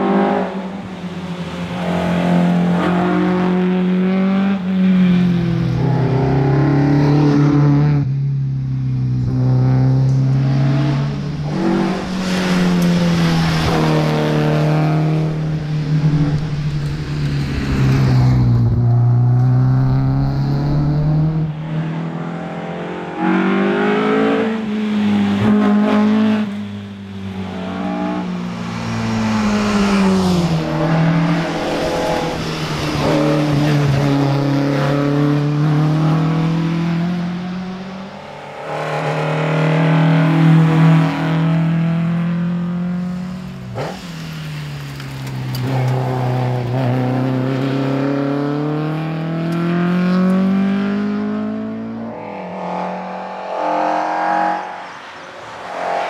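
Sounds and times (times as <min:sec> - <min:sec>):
rally car engine revving: 0:09.2 - 0:26.6, 0:27.4 - 0:56.0.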